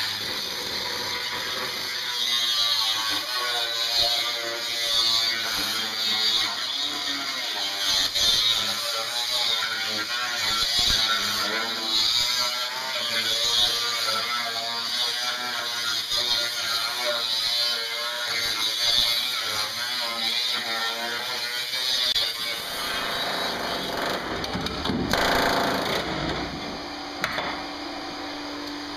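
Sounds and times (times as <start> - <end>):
angle grinder cutting sheet steel: 0.0 - 28.9.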